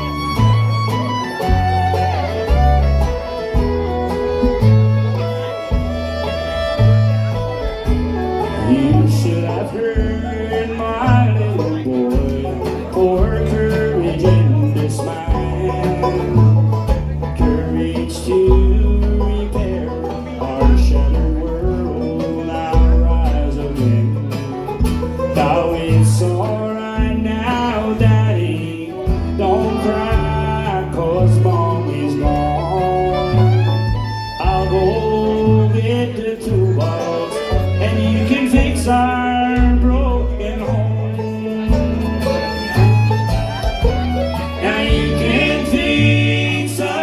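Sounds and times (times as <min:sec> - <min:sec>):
banjo rolls: 0:00.0 - 0:47.0
bass line: 0:00.0 - 0:47.0
guitar: 0:00.0 - 0:47.0.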